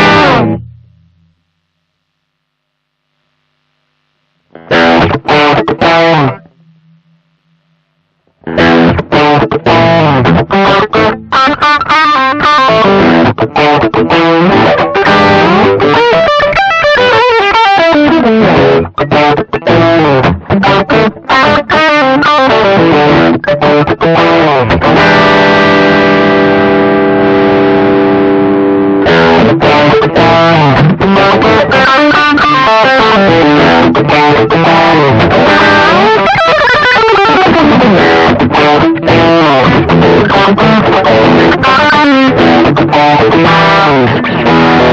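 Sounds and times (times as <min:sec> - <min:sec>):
distorted electric guitar: 0:00.0 - 0:44.9.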